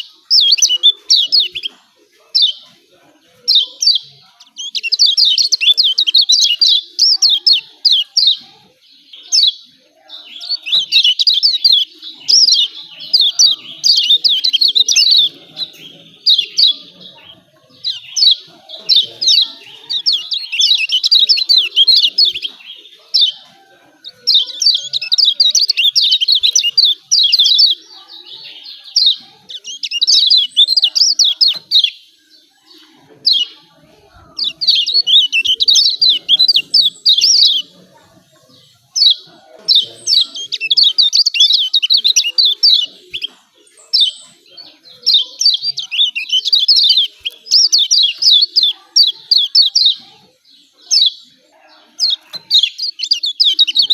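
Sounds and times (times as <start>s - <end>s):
bird chattering song: 0.0s - 53.9s.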